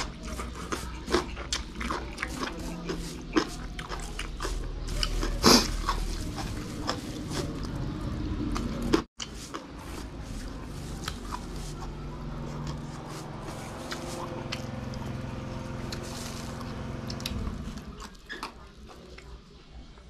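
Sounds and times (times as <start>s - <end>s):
steady low hum: 0.0s - 18.2s
chewing: 0.0s - 20.0s.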